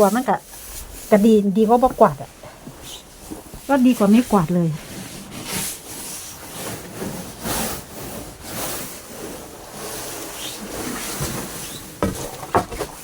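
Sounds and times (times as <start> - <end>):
snow brush swishing: 0.0 - 11.6.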